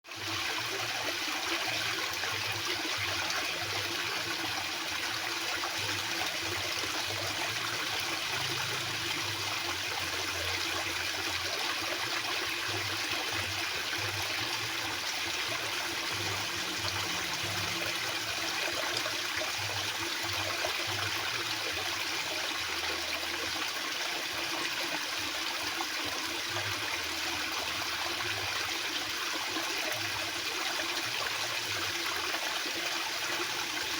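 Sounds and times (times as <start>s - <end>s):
fast-flowing water rushing: 0.1s - 33.9s.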